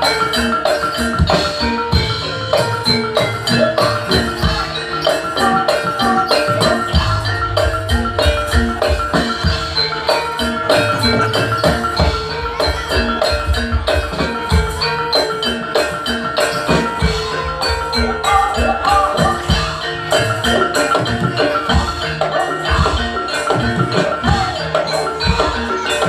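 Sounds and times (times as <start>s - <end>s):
bronze gongs and metallophones: 0.0s - 26.0s
hand drums pounding: 0.0s - 26.0s.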